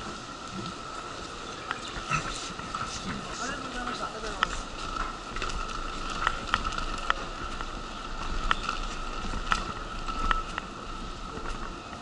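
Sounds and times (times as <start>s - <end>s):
wheelchair frame clicking: 0.0s - 12.0s
wheelchair rolling on concrete: 0.0s - 12.0s.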